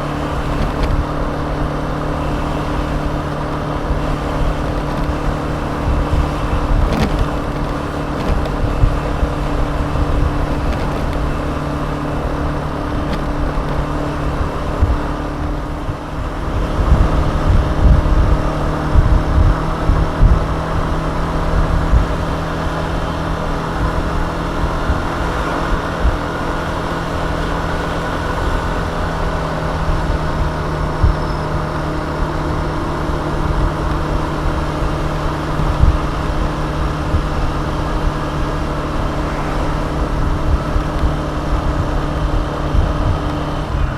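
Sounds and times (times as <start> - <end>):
scooter engine running: 0.0 - 43.9
wind buffeting microphone: 0.0 - 43.9.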